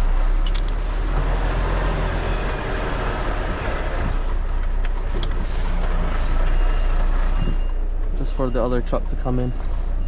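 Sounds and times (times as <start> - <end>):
lorry diesel engine running: 0.0 - 10.0.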